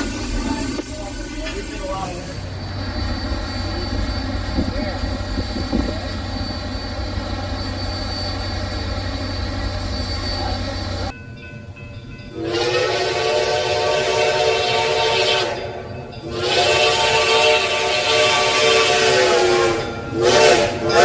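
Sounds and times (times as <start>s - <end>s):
train running with low hum: 0.0s - 21.0s.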